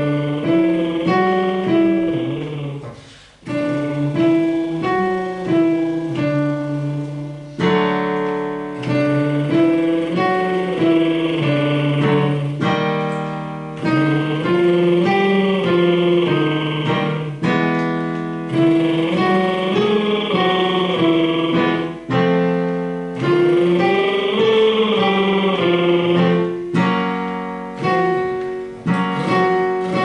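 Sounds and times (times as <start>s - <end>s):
instrumental music with chords: 0.0s - 30.0s.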